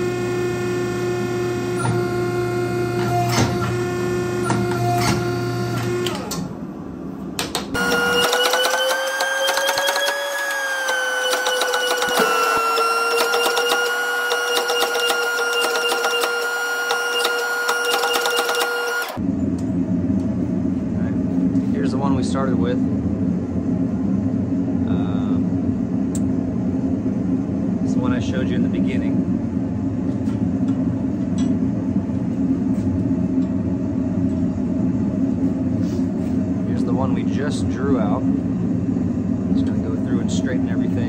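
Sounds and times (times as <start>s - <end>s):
forging press machine whine: 0.0s - 41.0s
higher machine whine: 0.0s - 41.0s.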